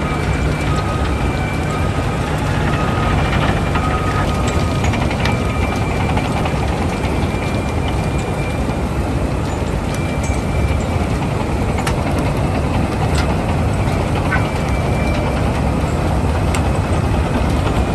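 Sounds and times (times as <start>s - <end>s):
excavator machinery rumbling: 0.0s - 17.9s.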